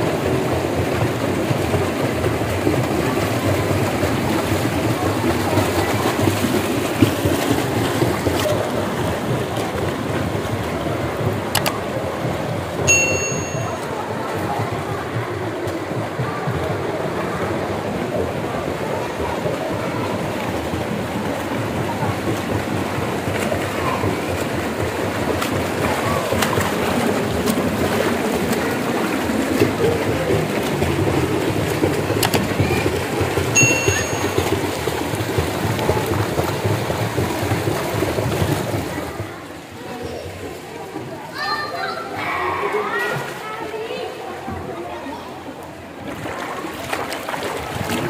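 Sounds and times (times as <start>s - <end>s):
swimmers splashing water: 0.0s - 48.0s.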